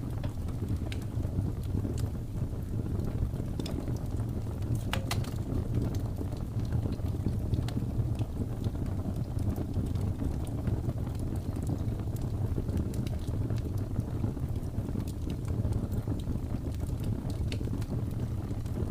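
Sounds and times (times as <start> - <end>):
wood fire crackling and popping: 0.0 - 18.9.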